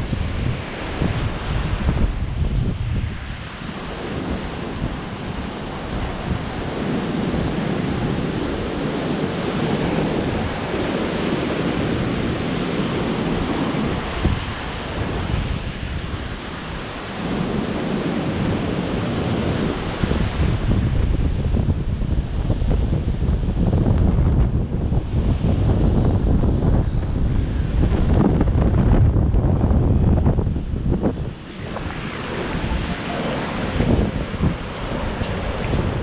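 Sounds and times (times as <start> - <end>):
ocean surf breaking on beach: 0.0 - 36.0
wind gusting on microphone: 0.0 - 36.0.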